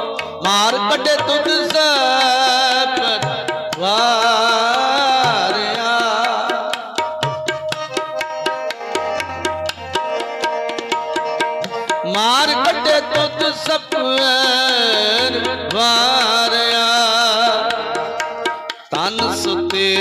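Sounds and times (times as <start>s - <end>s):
harmonium chords: 0.0s - 20.0s
man singing ornamented notes: 0.0s - 20.0s
tabla rhythm: 0.0s - 20.0s.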